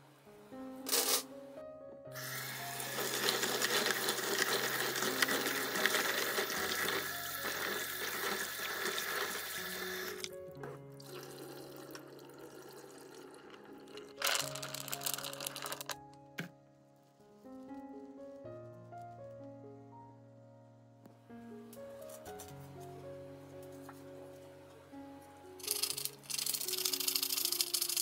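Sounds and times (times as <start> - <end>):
background music with steady tones: 0.0 - 28.0.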